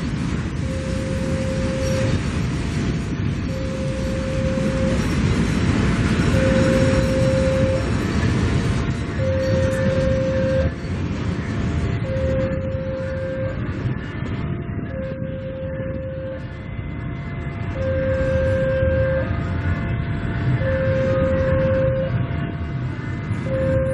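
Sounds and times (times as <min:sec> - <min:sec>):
freight train rumbling past: 0:00.0 - 0:23.9
passenger train passing: 0:00.0 - 0:23.9
two-tone crossing alarm: 0:00.5 - 0:02.5, 0:03.4 - 0:08.3, 0:08.9 - 0:10.9, 0:11.9 - 0:13.9, 0:14.7 - 0:23.9.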